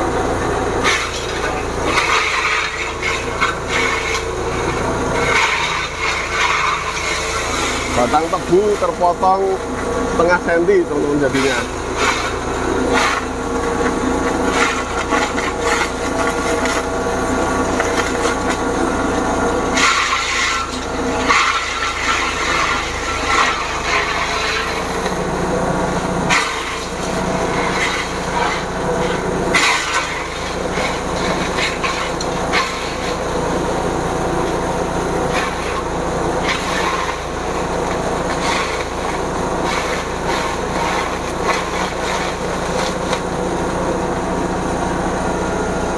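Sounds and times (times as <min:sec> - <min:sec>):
engine humming: 0:00.0 - 0:45.9.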